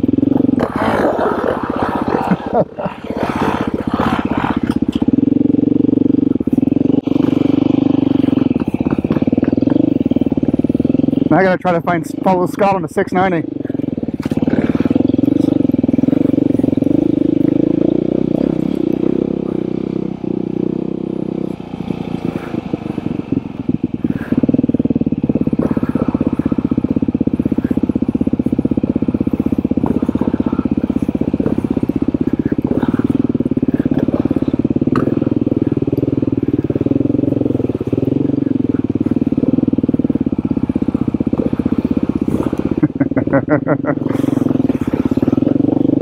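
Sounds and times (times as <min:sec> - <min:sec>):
dirt bike engine running: 0:00.0 - 0:46.0.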